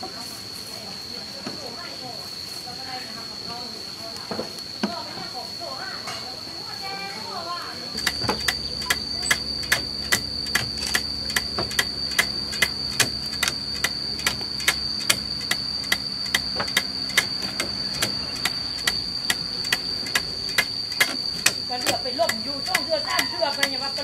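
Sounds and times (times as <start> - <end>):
high-pitched whine: 0.1 - 24.0.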